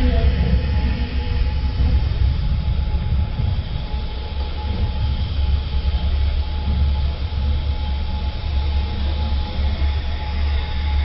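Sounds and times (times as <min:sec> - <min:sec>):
faint constant whine: 0:00.0 - 0:11.0
train rumbling: 0:00.0 - 0:11.0.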